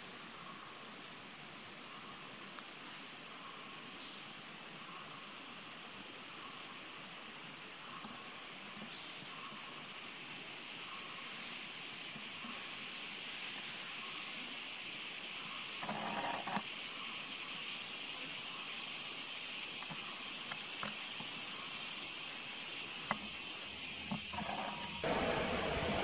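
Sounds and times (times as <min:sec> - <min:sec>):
high-pitched forest hiss: 0:00.0 - 0:26.0.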